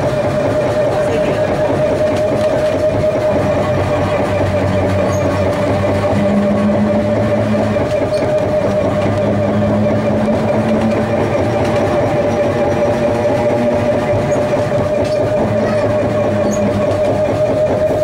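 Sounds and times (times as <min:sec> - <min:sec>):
tram motor hum: 0:00.0 - 0:18.0
wheels rumbling on rails: 0:00.0 - 0:18.0.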